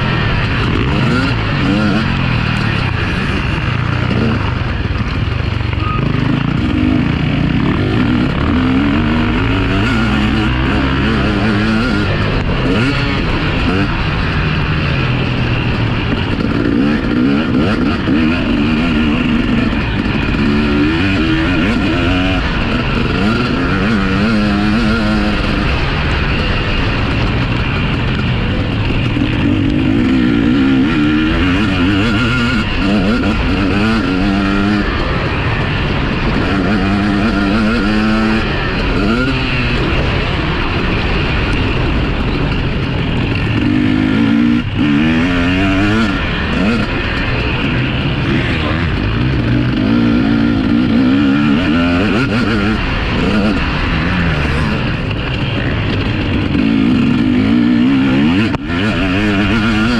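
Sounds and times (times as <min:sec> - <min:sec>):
din of engines on track: 0:00.0 - 0:59.9
motocross bike engines revving: 0:00.0 - 0:59.9.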